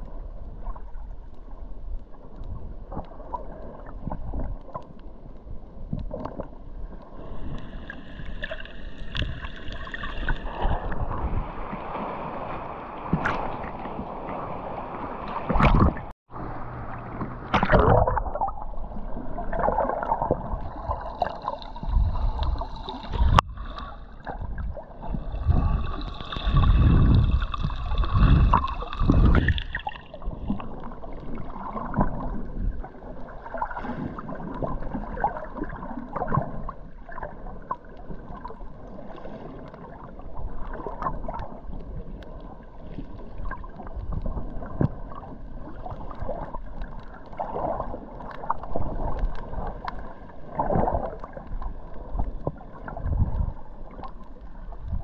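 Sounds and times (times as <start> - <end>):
muffled underwater sloshing: 0.0 - 55.0.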